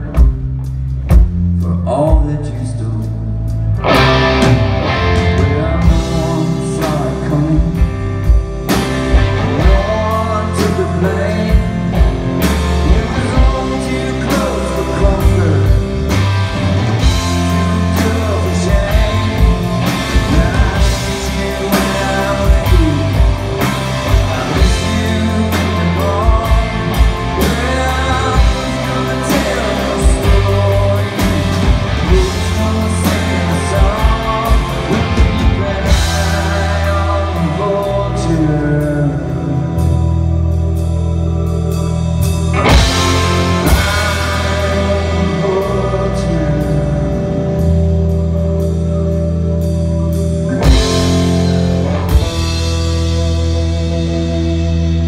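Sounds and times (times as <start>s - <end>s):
bass guitar: 0.0s - 55.0s
drum kit: 0.0s - 55.0s
keyboard: 0.0s - 55.0s
electric guitar: 2.8s - 55.0s
person singing: 4.0s - 40.7s, 41.3s - 49.4s.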